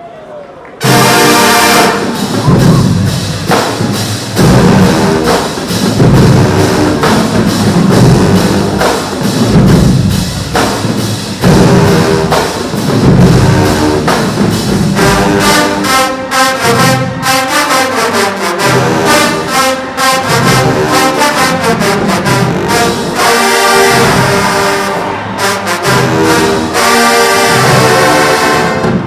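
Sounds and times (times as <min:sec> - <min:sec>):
marching band brass and drums: 0:00.8 - 0:29.0.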